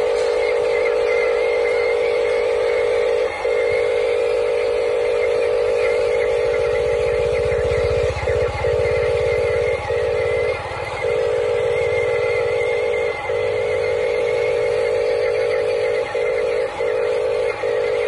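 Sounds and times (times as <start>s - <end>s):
toy truck electric motor whining: 0.0s - 18.0s.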